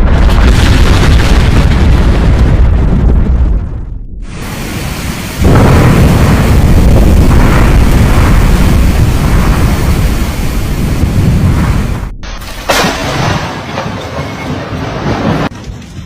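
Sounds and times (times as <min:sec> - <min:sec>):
thunder crack: 0:00.0 - 0:15.5
rolling thunder rumble: 0:00.0 - 0:15.6.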